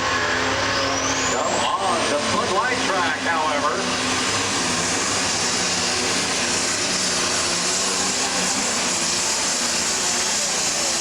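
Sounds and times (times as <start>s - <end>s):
pulling tractor engine at full load: 0.0s - 11.0s.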